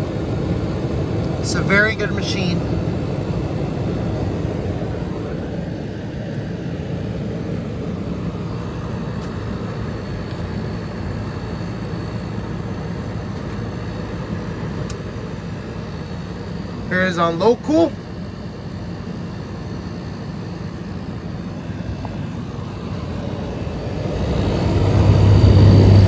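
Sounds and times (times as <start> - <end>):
air conditioner fan blowing: 0.0 - 26.0
compressor hum: 0.0 - 26.0.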